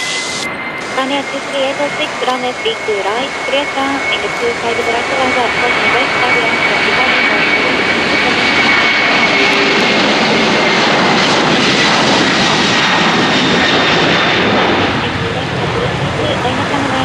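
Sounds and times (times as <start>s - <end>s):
jet engine roar with high whine: 0.0s - 17.0s.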